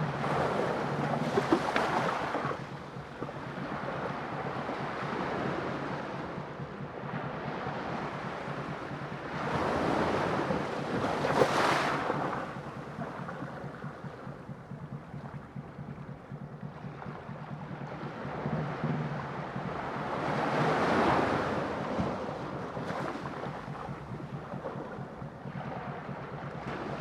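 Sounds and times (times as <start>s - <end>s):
waves washing in: 0.0s - 27.0s.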